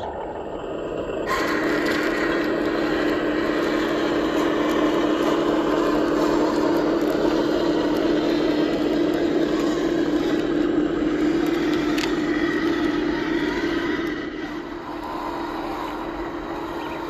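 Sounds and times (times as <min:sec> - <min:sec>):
toy truck motor whining: 0:00.2 - 0:17.0.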